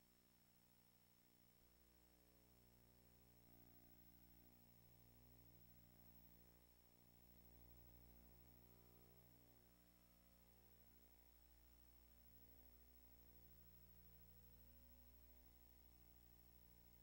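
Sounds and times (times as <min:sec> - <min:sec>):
faint electrical hum with hiss: 0:00.0 - 0:17.0.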